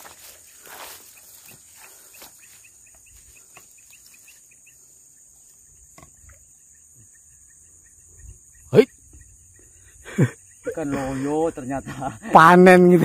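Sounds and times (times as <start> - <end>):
short insect chirps: 0.0 - 11.7
insects trilling: 0.0 - 13.0.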